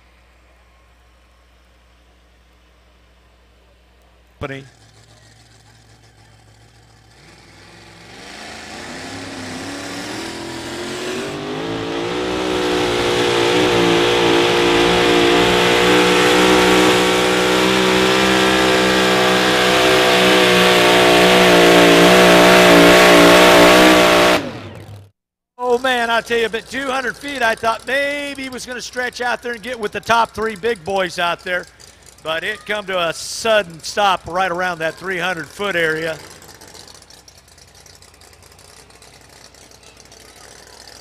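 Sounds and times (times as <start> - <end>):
pulling truck engine at full throttle: 4.4 - 41.0.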